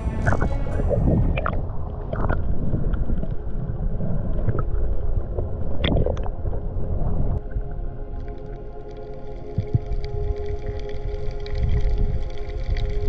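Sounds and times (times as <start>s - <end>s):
muffled underwater rumble: 0.0s - 13.0s
underwater clicks and crackles: 1.3s - 13.0s.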